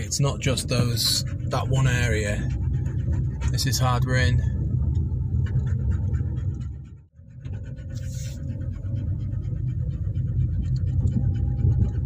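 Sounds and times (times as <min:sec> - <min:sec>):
car engine and road rumble: 0:00.0 - 0:12.0
fast even rattle: 0:00.0 - 0:12.0.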